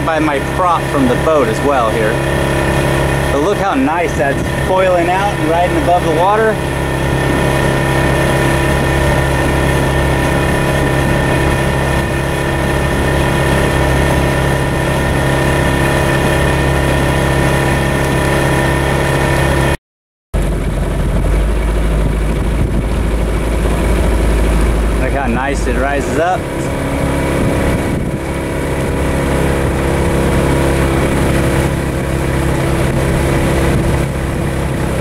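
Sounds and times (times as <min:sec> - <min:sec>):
water rushing: 0:00.0 - 0:19.8, 0:20.4 - 0:35.0
motorboat engine running: 0:00.0 - 0:35.0.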